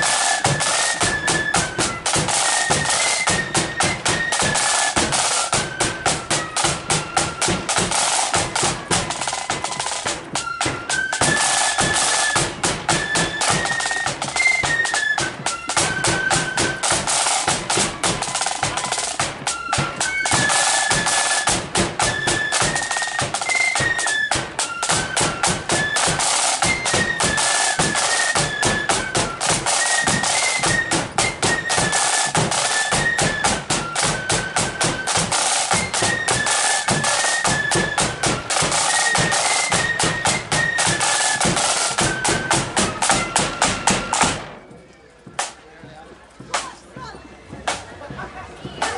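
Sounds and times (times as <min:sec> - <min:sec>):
fast snare drumming: 0:00.0 - 0:44.5
flute melody: 0:00.0 - 0:48.9.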